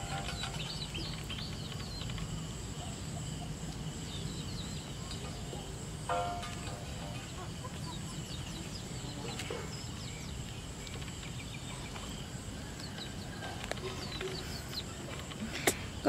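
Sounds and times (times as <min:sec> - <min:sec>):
chicks peeping: 0:00.0 - 0:16.0
high insect drone: 0:00.0 - 0:16.0.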